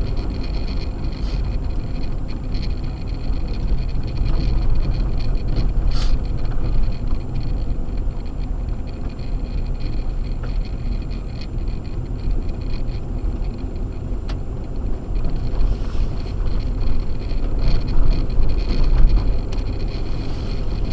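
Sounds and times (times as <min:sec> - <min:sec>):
car driving on snow: 0:00.0 - 0:20.9.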